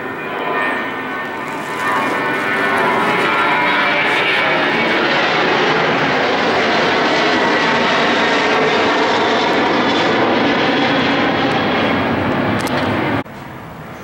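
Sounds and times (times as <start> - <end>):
airliner jet engine noise: 0.0 - 14.0.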